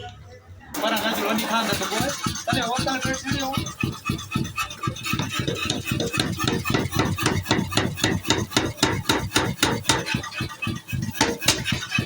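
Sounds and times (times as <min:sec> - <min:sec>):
power hammer pounding metal: 0:00.8 - 0:12.0.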